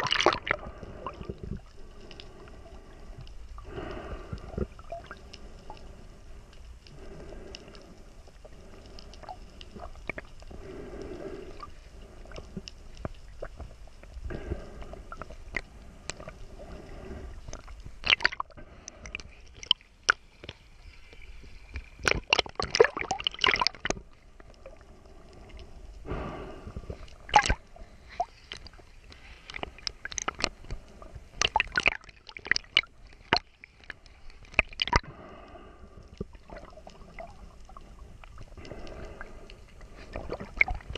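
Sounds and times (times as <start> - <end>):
water sloshing and splashing: 0.0 - 6.1, 8.1 - 26.2, 26.8 - 35.0, 36.2 - 40.9
sharp clicks and crackles: 0.0 - 26.0, 26.6 - 40.9.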